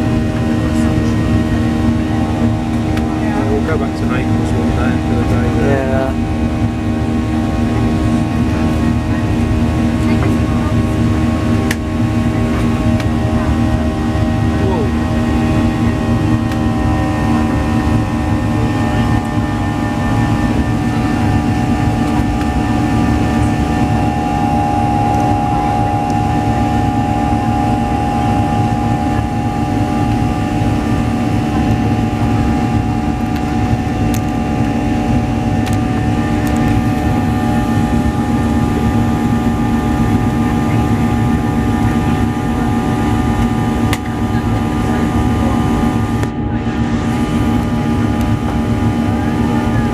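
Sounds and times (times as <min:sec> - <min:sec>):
jet engine roar in cabin: 0:00.0 - 0:49.9.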